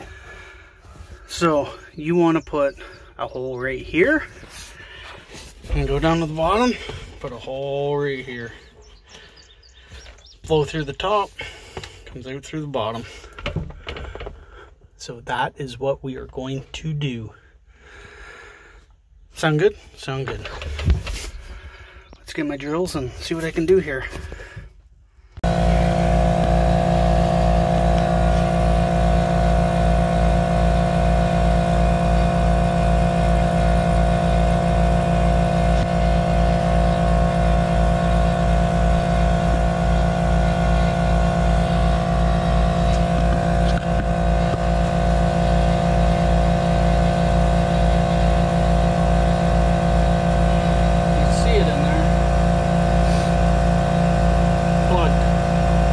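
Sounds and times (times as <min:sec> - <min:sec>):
engine running with low throb: 0:00.0 - 0:55.9.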